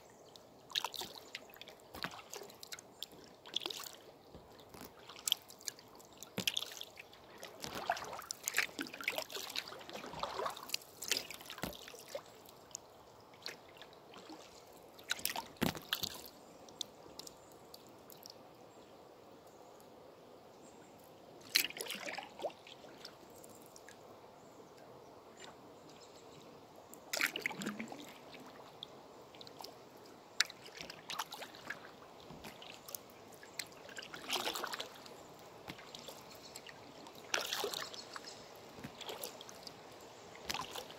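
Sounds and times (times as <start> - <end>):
paddle sloshing water: 0.6 - 17.5, 21.4 - 24.0, 26.9 - 40.9.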